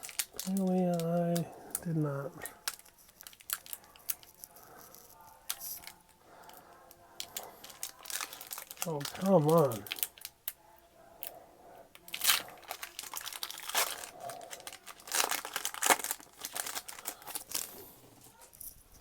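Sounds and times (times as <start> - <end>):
foil wrappers crinkling and tearing: 0.0 - 6.6, 7.2 - 10.4, 12.0 - 19.0.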